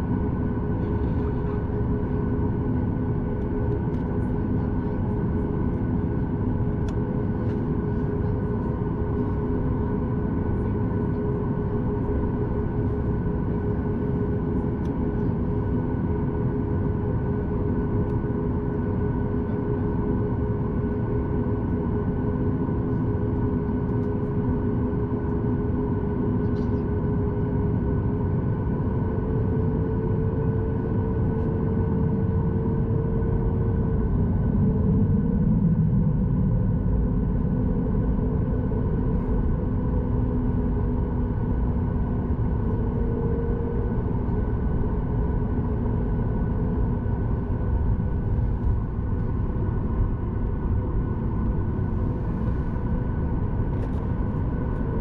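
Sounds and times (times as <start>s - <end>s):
jet engine cabin rumble: 0.0s - 55.0s
steady humming tones: 0.0s - 55.0s.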